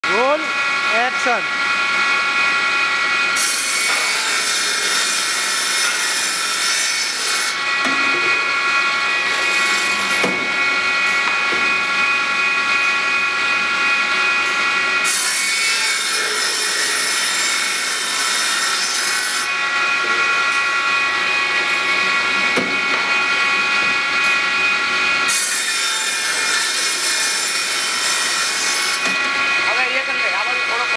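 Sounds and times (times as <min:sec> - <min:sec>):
circular saw blade whining: 0:00.0 - 0:30.9
saw cutting wood: 0:00.0 - 0:30.9.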